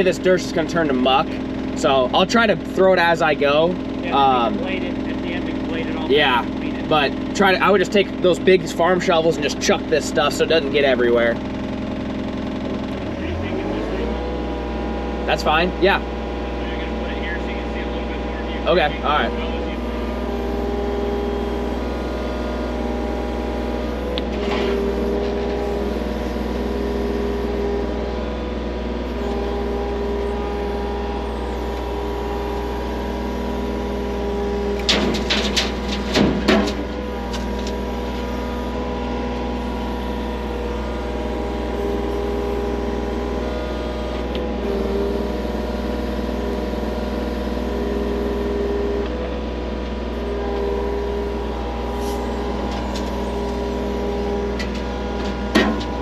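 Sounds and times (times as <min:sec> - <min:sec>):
skid loader engine running: 0:00.0 - 0:56.0.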